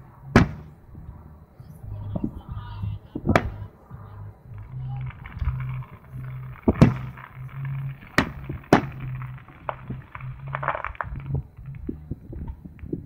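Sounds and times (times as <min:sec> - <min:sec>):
fireworks bangs: 0:00.0 - 0:13.0
fireworks pops and crackles: 0:00.3 - 0:13.0.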